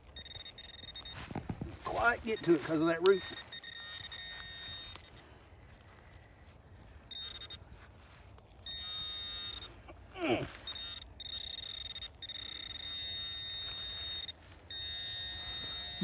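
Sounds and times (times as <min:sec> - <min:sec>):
metal detector alert tone: 0:00.0 - 0:05.2, 0:07.1 - 0:07.7, 0:08.6 - 0:16.0.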